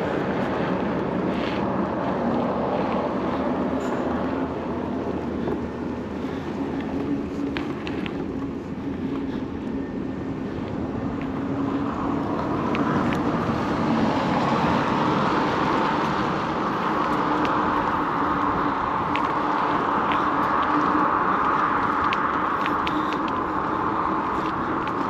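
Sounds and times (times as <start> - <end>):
road traffic rush: 0.0 - 25.0.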